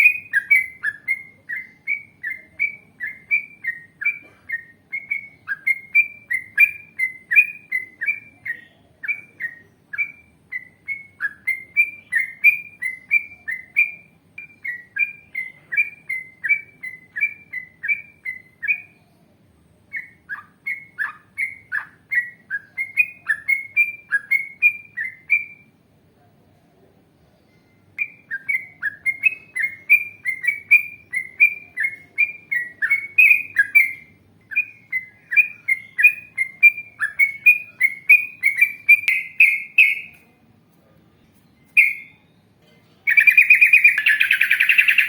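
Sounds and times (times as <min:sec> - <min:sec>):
bird whistled notes: 0:00.0 - 0:19.0, 0:19.9 - 0:25.7, 0:28.0 - 0:40.2, 0:41.6 - 0:42.4, 0:43.1 - 0:45.0.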